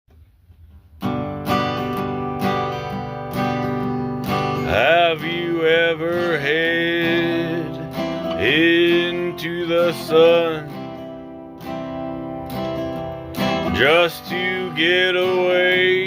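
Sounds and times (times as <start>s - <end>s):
acoustic guitar strumming chords: 0.7s - 16.0s.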